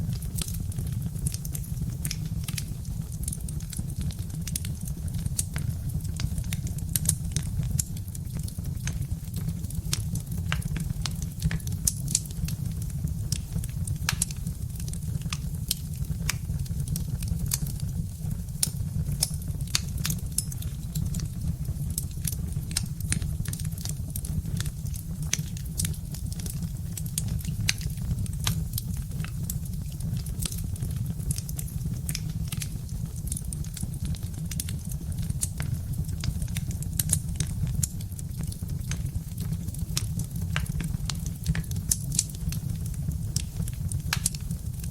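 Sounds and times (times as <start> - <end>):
low rumble of burning logs: 0.0 - 44.9
wood fire crackling and popping: 0.0 - 44.9.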